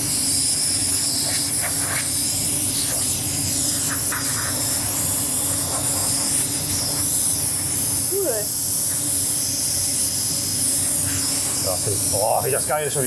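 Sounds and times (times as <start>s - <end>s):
compressed air nozzle hissing: 0.0s - 13.0s.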